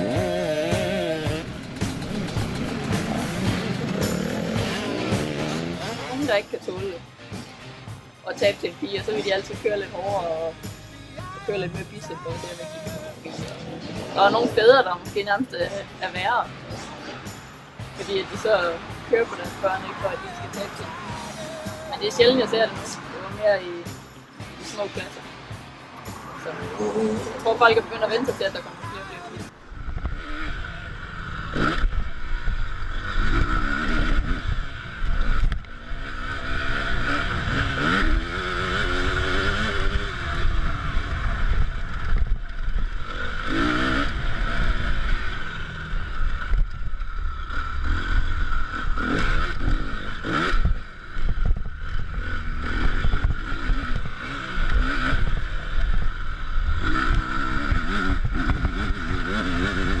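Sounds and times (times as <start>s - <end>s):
motocross bike engine revving: 0.0s - 60.0s.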